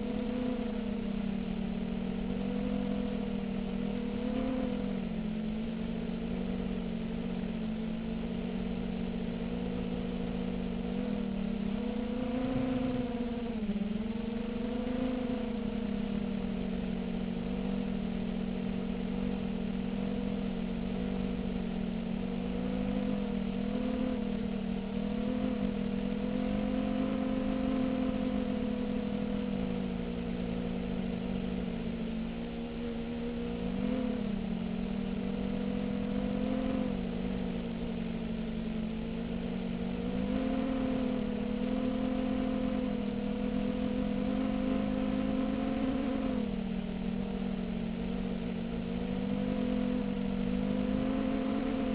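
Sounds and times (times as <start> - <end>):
quadcopter motors whining: 0.0 - 7.3, 7.9 - 18.5, 19.1 - 31.6, 32.6 - 51.9.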